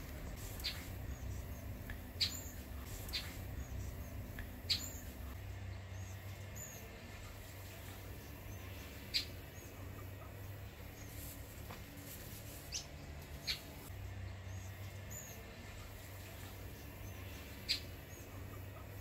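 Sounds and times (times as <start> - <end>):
bird chirping: 0.0 - 11.4, 12.6 - 19.0.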